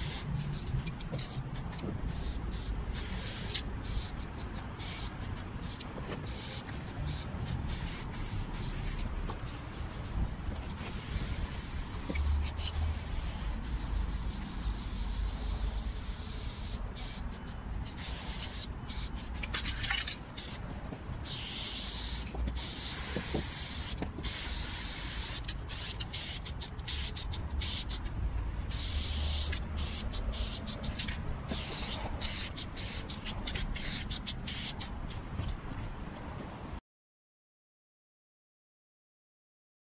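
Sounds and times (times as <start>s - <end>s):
spray paint cans hissing: 0.0s - 35.0s.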